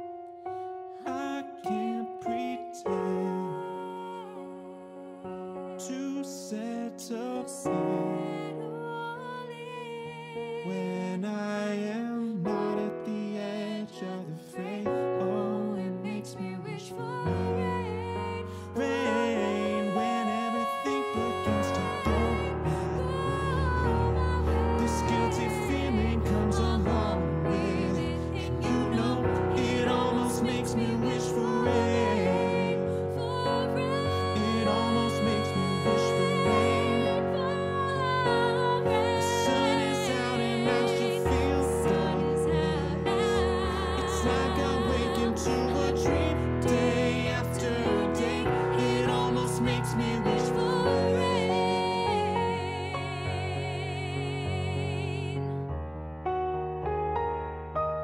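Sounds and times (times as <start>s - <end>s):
piano chords: 0.0s - 58.0s
woman and man singing in harmony: 1.0s - 55.6s.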